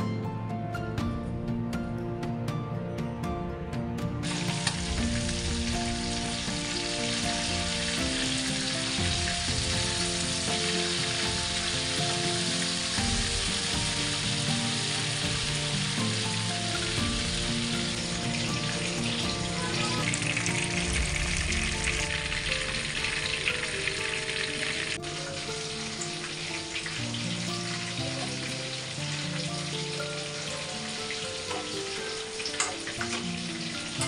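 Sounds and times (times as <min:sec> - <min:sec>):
background music: 0:00.0 - 0:34.0
food sizzling in hot oil: 0:04.2 - 0:34.0.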